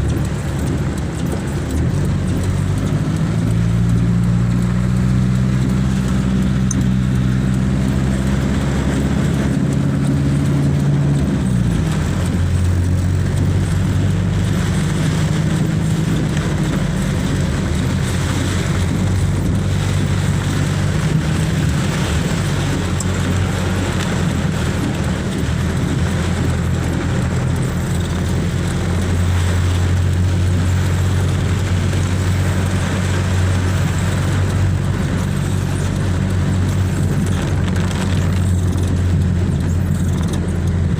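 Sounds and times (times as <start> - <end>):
car engine running: 0.0 - 40.9
continuous rushing noise: 0.0 - 40.9.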